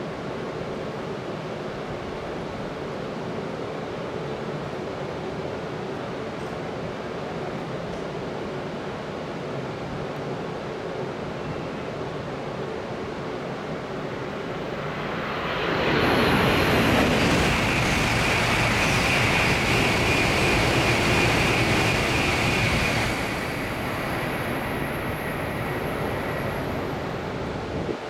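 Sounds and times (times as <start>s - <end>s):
high-speed train passing: 0.0s - 28.0s.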